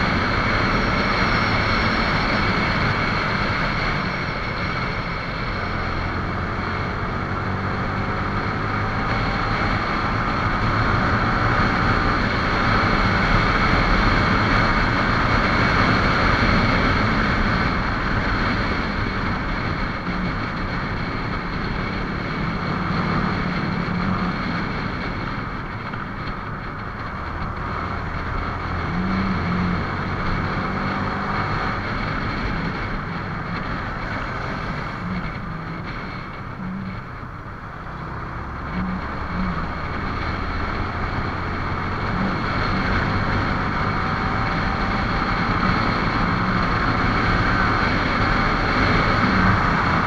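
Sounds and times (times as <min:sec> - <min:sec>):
motorcycle engine running: 0:00.0 - 0:50.0
wind noise on microphone: 0:00.0 - 0:50.0.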